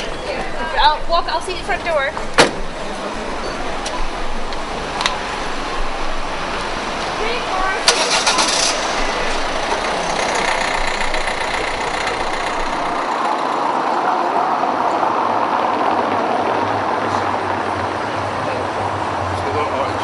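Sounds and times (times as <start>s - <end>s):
car tyres rumbling on cobblestones: 0.0s - 20.0s.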